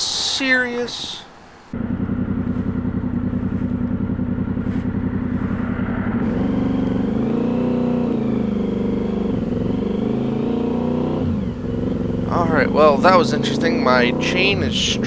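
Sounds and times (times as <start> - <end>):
motorcycle engine idling and revving: 1.7 - 15.0.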